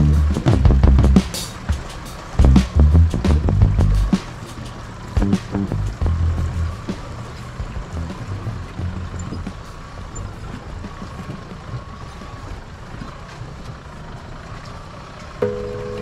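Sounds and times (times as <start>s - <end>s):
off-road vehicle engine rumble: 0.0s - 16.0s.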